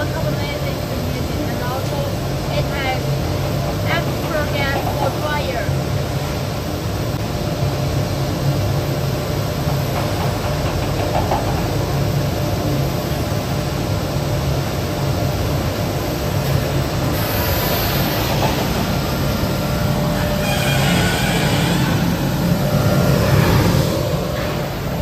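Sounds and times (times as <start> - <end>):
furnace burner roar: 0.0 - 25.0.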